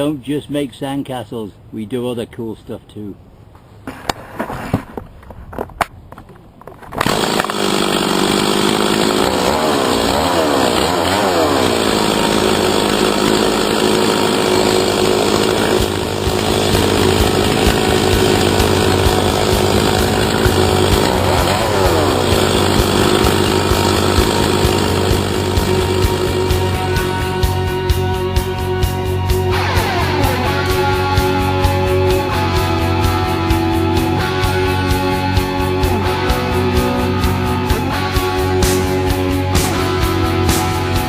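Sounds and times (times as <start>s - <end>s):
chainsaw running and revving: 7.0s - 28.7s, 29.5s - 41.0s.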